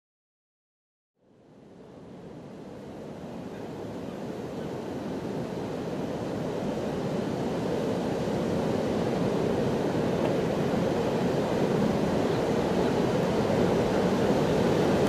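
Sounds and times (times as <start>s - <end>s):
wind: 1.2s - 15.0s
surf rumbling: 1.4s - 15.0s.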